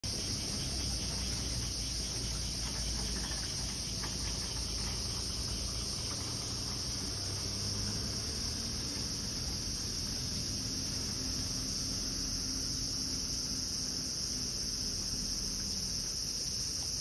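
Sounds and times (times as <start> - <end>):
insects singing: 0.0 - 17.0.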